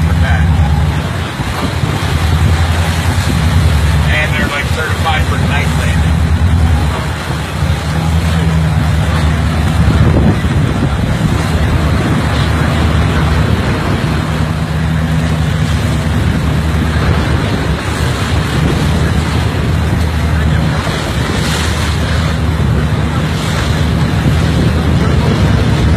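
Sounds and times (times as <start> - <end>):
boat engine drone: 0.0 - 25.9
sea water slapping boat: 0.0 - 25.9
wind buffeting microphone: 0.0 - 25.9.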